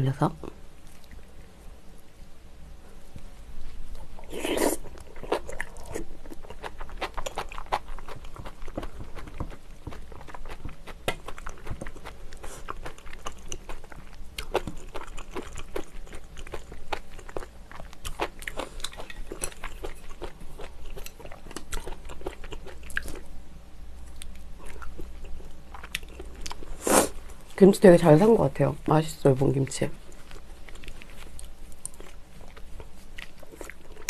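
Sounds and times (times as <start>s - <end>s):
person chewing food: 0.8s - 1.6s, 3.9s - 23.3s, 24.0s - 27.5s, 30.0s - 34.0s.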